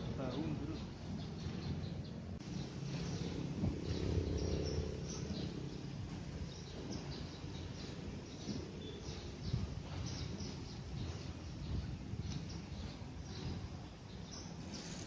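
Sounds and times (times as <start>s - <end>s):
low steady rumble: 0.0s - 15.0s
small birds chirping: 0.0s - 15.0s.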